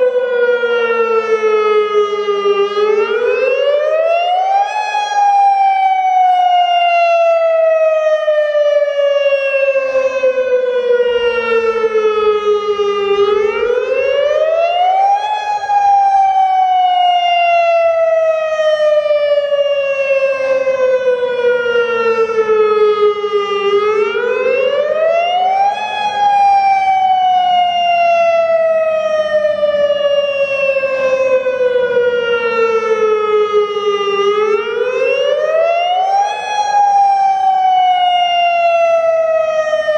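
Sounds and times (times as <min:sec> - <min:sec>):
wavering warning siren wail: 0:00.0 - 0:39.9.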